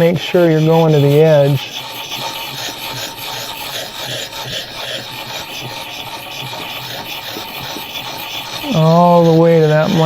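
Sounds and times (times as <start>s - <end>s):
sharpening stone rasping on knife: 0.0s - 10.0s.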